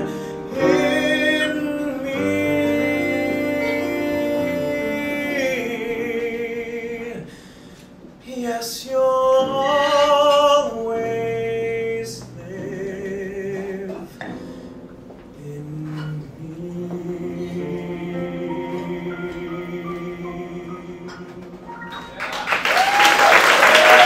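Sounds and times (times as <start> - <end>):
man singing a ballad: 0.0 - 7.6, 8.2 - 14.5, 15.3 - 21.7
piano accompaniment: 0.0 - 24.0.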